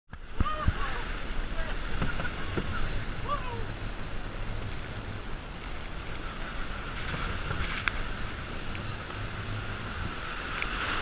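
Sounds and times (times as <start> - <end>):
water rushing under raft: 0.1 - 11.0
wind noise: 0.1 - 11.0.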